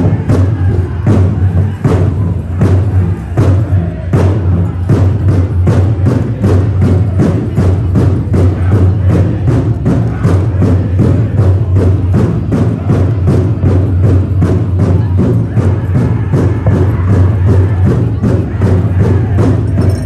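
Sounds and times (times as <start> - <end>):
drum beaten steadily: 0.0 - 20.0.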